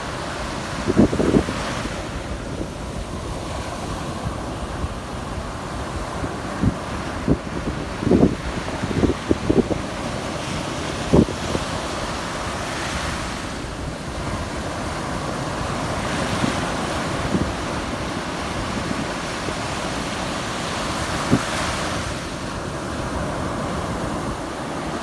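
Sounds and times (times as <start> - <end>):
sea waves washing in: 0.0 - 25.0
wind buffeting microphone: 0.0 - 25.0.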